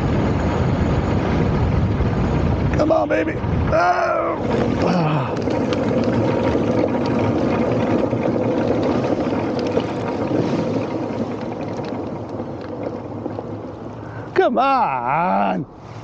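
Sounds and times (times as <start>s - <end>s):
paramotor engine and propeller: 0.0s - 14.4s.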